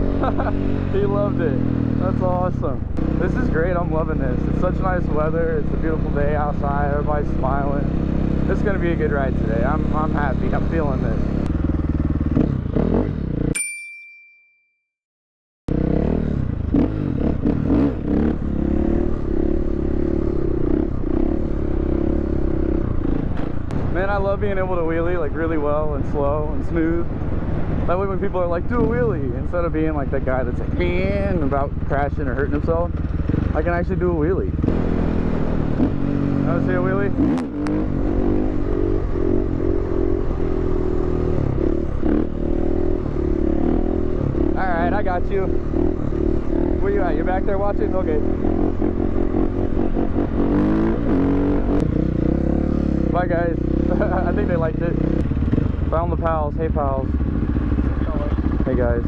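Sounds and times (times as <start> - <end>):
dirt bike engine revving: 0.0 - 13.6, 15.7 - 24.4, 26.7 - 59.0.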